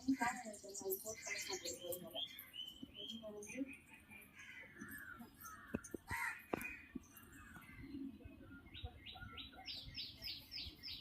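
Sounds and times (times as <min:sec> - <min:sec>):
faint bird calls: 0:00.0 - 0:11.0.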